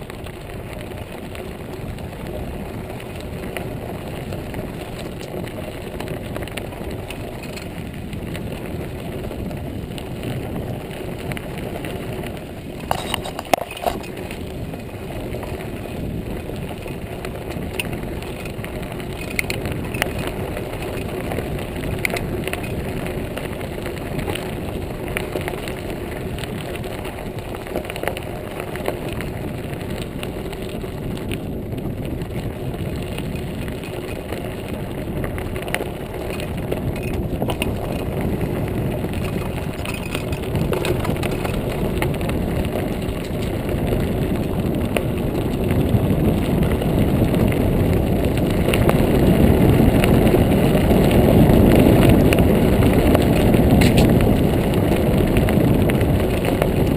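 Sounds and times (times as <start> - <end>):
bike clicks and rattles: 0.0 - 56.9
bike tyres crunching on gravel: 0.0 - 56.9.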